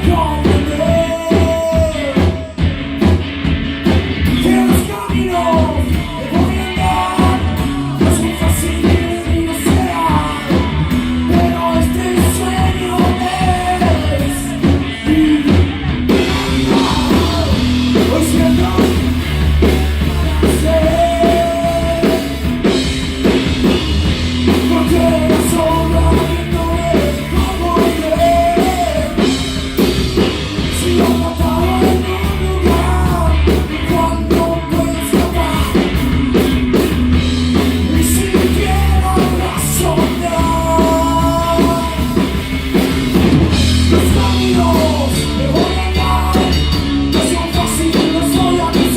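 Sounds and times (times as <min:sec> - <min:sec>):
person singing lead vocal: 0:00.0 - 0:02.8, 0:04.2 - 0:22.9, 0:23.6 - 0:42.5, 0:43.2 - 0:48.9
rock band playing: 0:00.0 - 0:48.9.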